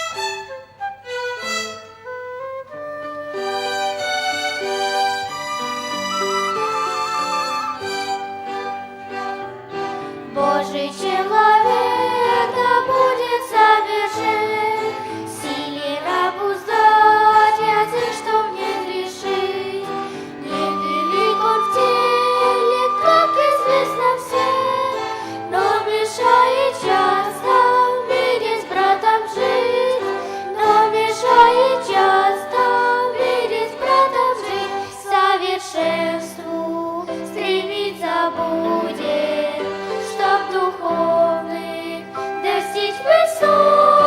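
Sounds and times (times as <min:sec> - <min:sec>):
violins playing held notes: 0:00.0 - 0:36.3, 0:37.0 - 0:44.0
voices singing a hymn: 0:06.5 - 0:44.0.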